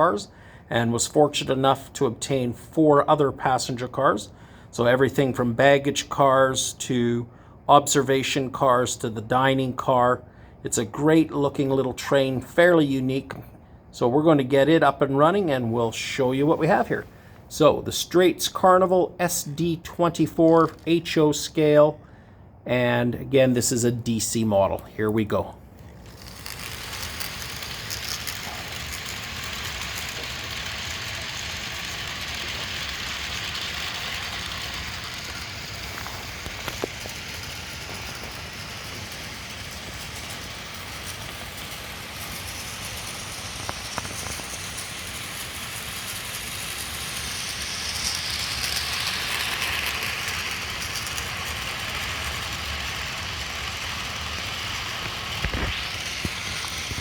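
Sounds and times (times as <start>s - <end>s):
model train rolling on track: 0.0s - 13.4s, 14.0s - 22.0s, 22.7s - 57.0s.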